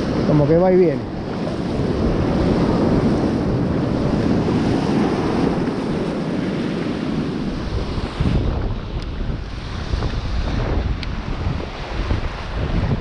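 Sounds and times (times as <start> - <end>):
surf washing and foaming: 0.0 - 13.0
wind buffeting microphone: 0.0 - 13.0.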